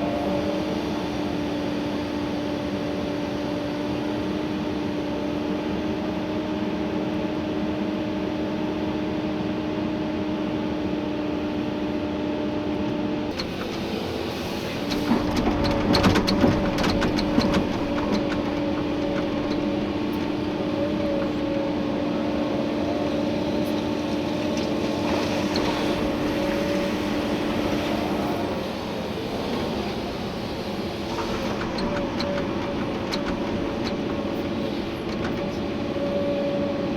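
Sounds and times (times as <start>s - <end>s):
excavator engine and hydraulics hum: 0.0s - 36.9s.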